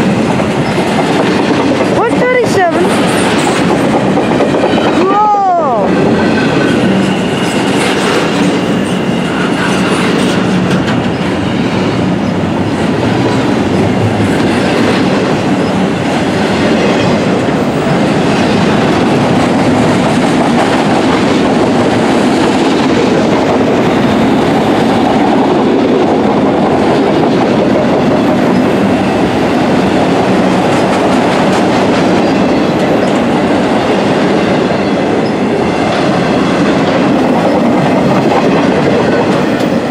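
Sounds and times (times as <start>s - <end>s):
freight train wheels rumbling: 0.0s - 39.9s
wheels clacking over rail joints: 6.2s - 39.9s.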